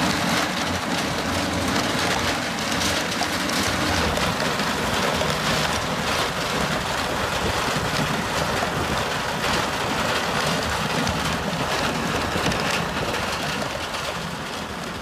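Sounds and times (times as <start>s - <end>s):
rock crackling and rattling: 0.0s - 15.0s
tractor rumble: 0.0s - 15.0s.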